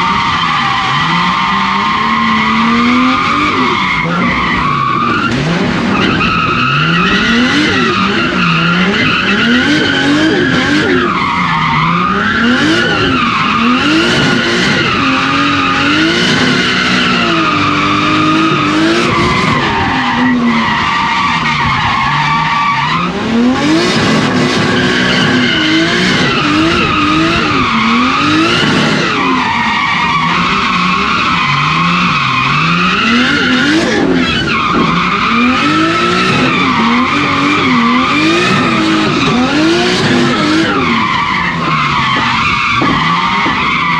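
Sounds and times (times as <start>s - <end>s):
car engine revving: 0.0s - 43.9s
tyres skidding: 0.0s - 43.9s.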